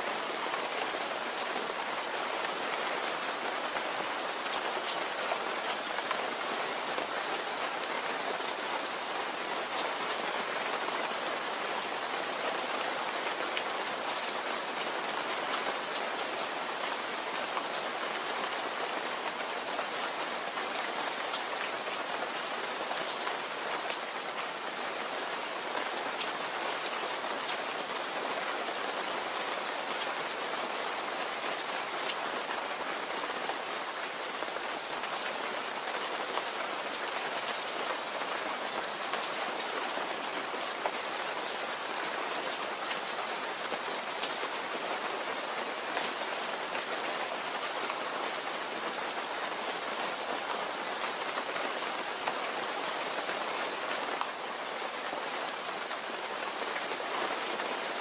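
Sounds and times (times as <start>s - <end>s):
rain falling: 0.0s - 58.0s
raindrops ticking on a surface: 0.0s - 58.0s.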